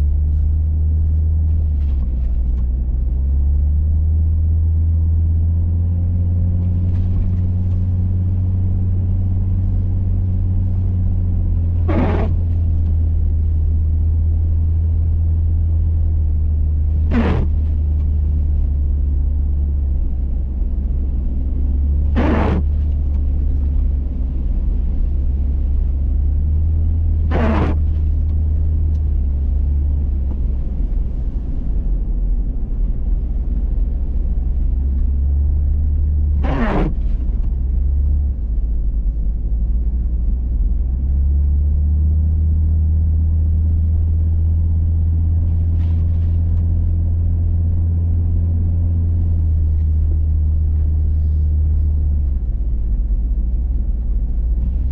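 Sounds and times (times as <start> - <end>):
vehicle rumbling through snow: 0.0 - 54.9.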